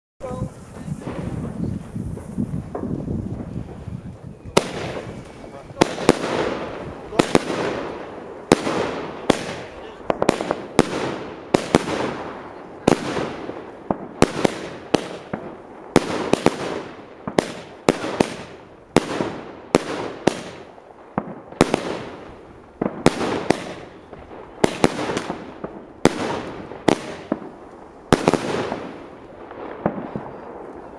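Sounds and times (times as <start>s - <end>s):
fireworks launching and bursting: 0.2s - 30.9s.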